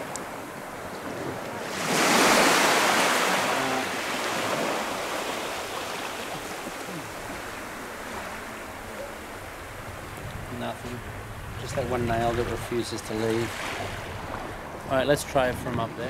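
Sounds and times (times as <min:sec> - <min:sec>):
wave washing up sand: 0:00.0 - 0:16.0.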